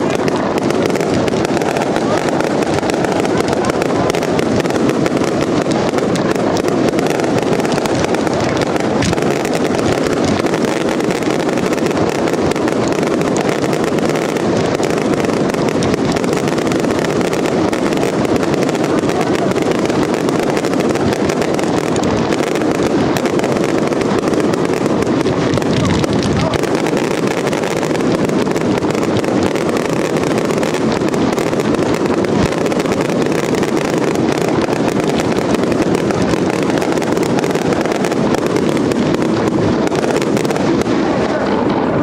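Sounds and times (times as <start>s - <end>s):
fireworks barrage crackling: 0.0s - 42.0s.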